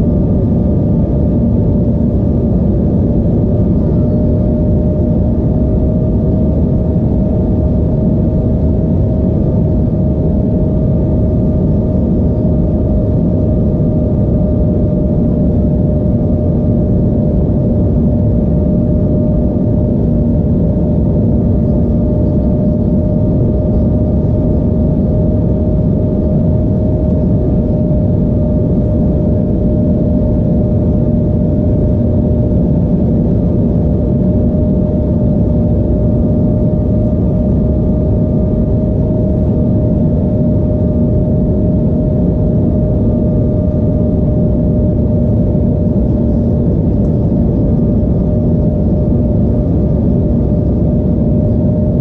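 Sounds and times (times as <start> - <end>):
jet engines humming: 0.0 - 52.0
cabin airflow rush: 8.1 - 52.0.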